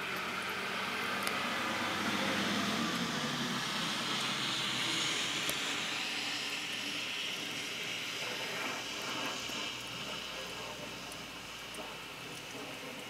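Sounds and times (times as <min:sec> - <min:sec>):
truck engine hum: 0:00.0 - 0:13.0
tyres hissing on snowy road: 0:00.0 - 0:13.0.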